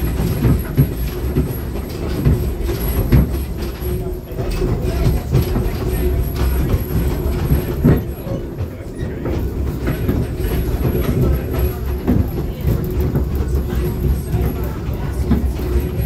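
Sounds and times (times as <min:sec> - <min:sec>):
train carriage rumble and rattle: 0:00.0 - 0:16.0.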